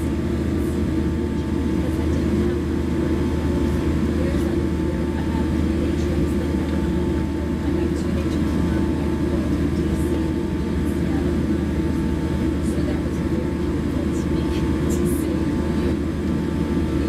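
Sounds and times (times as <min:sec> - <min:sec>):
faint steady whine: 0:00.0 - 0:17.0
jet engines idling rumble: 0:00.0 - 0:17.0.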